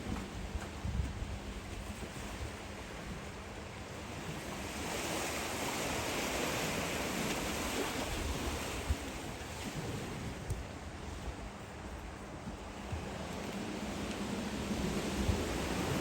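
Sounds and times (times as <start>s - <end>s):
waves washing onto beach: 0.0s - 16.0s.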